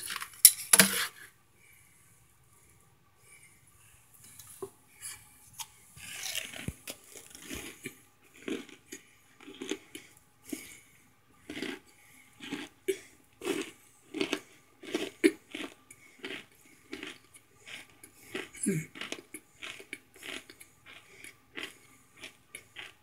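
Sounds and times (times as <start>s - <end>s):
chewing crunchy food: 4.2s - 23.0s.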